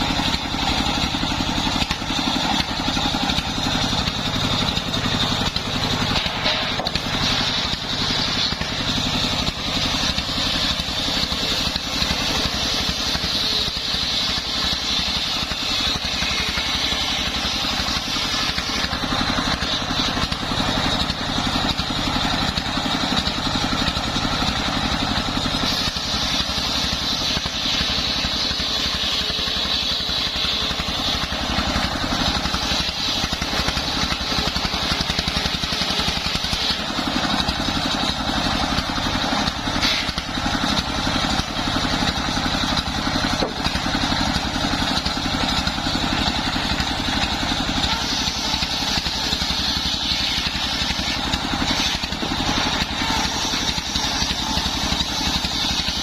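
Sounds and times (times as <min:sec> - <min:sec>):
circular saw hissing through wood: 0:00.0 - 0:56.0.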